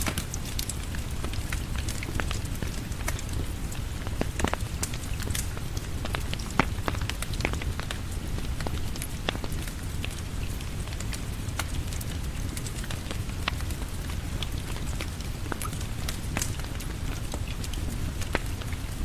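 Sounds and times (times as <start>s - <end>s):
steady rain falling: 0.0s - 19.0s
wood fire crackling: 0.0s - 19.0s.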